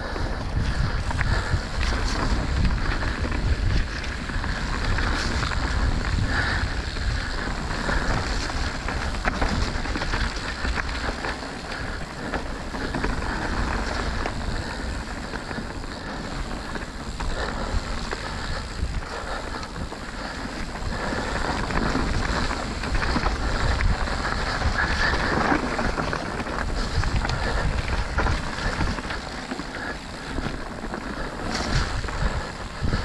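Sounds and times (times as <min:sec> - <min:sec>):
tyres rumbling over dirt: 0:00.0 - 0:33.0
wind rushing over microphone: 0:00.0 - 0:33.0
bike clicks and knocks: 0:00.3 - 0:33.0.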